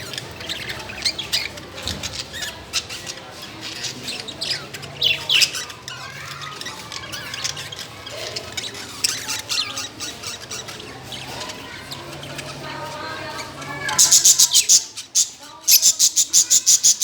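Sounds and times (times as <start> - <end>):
birds squawking and chirping: 0.0 - 17.0.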